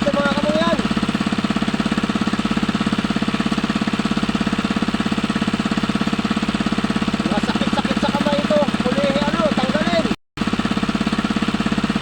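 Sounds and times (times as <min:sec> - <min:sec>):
small engine knocking rhythmically: 0:00.0 - 0:12.0.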